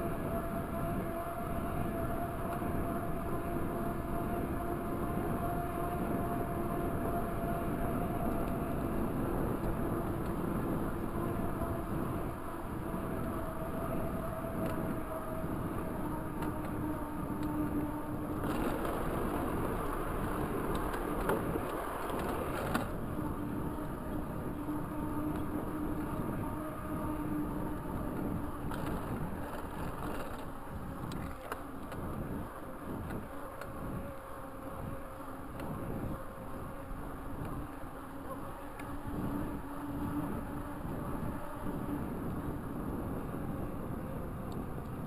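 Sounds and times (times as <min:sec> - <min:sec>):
bike tyre road noise: 0:00.0 - 0:45.0
faint steady hum: 0:00.0 - 0:45.0.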